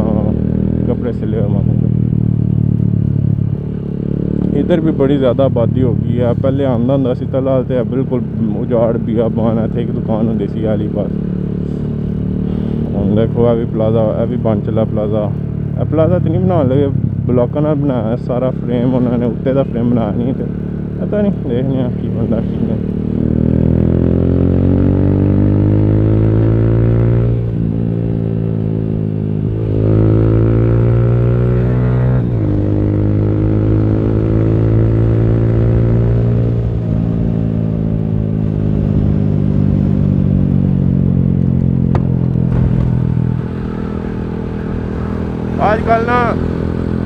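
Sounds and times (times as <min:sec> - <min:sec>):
motorcycle engine shifting gears: 0:00.0 - 0:47.0.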